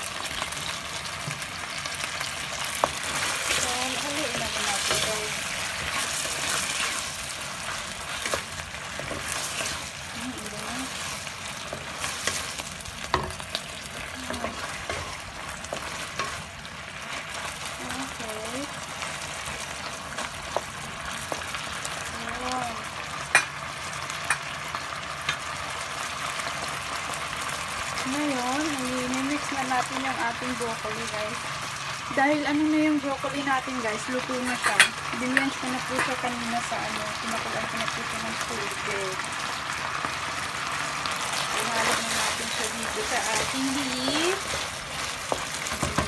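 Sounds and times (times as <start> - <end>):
beef sizzling in a frying pan: 0.0 - 46.0.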